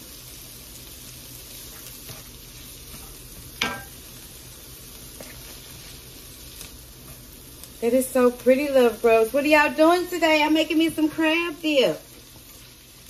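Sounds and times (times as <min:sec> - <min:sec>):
vegetables sizzling in skillet: 0:00.0 - 0:13.0.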